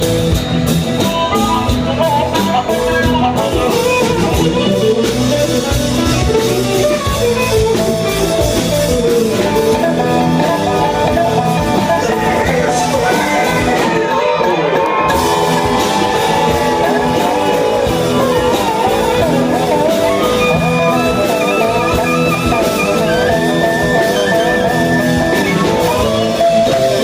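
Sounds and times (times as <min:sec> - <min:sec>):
live band playing instrumental: 0:00.0 - 0:27.0.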